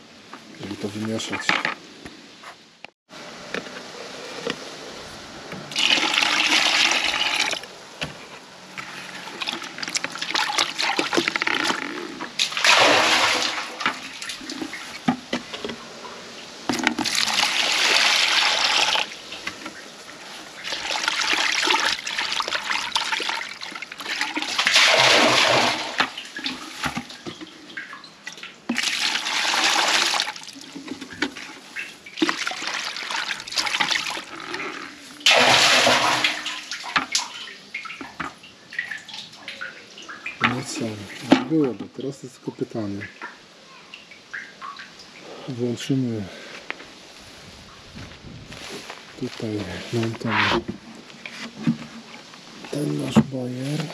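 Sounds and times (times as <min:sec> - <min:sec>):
water pouring and splashing: 0:05.6 - 0:53.9.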